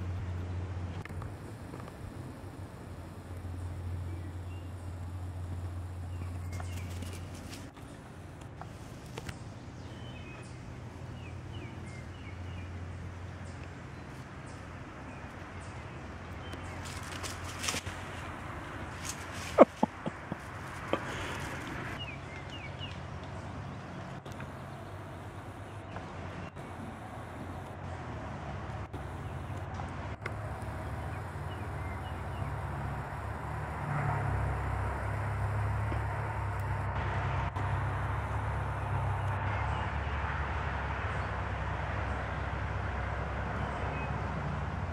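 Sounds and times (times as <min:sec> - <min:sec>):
distant engine hum: 0:00.0 - 0:44.9
low outdoor rumble: 0:00.0 - 0:44.9.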